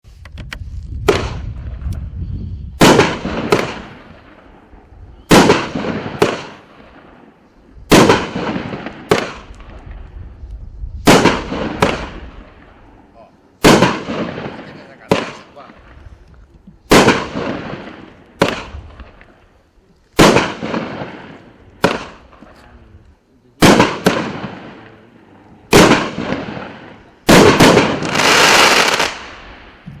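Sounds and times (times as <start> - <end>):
fireworks bangs: 1.0 - 1.9, 2.8 - 10.2, 11.0 - 22.9, 23.6 - 30.0.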